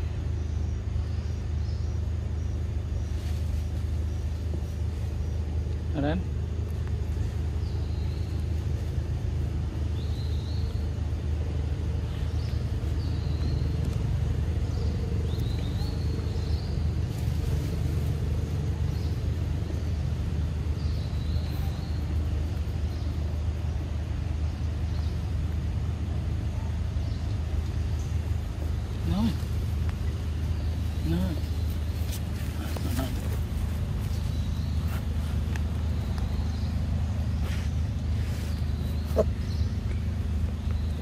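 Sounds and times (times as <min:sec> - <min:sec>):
low humming rumble: 0:00.0 - 0:41.0.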